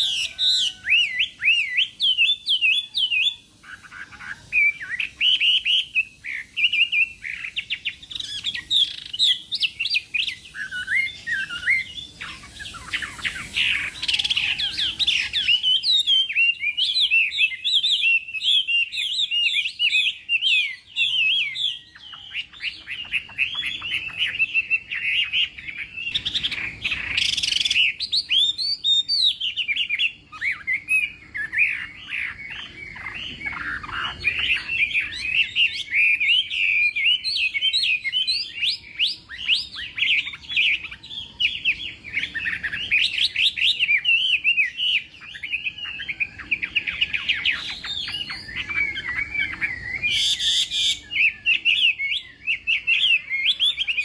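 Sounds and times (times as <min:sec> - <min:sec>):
bird singing whistled song: 0:00.0 - 0:54.0.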